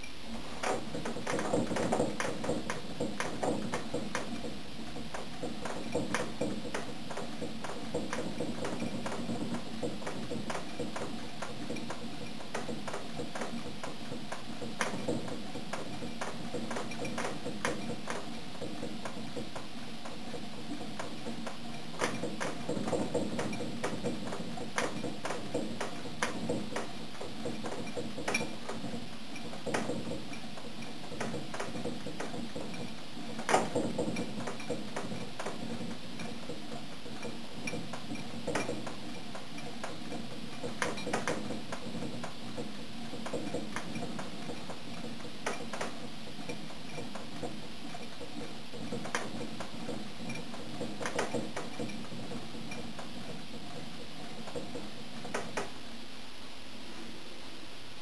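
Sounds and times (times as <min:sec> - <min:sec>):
mechanism ticking and clicking: 0:00.0 - 0:56.0
machine mechanical hum: 0:00.0 - 0:58.0.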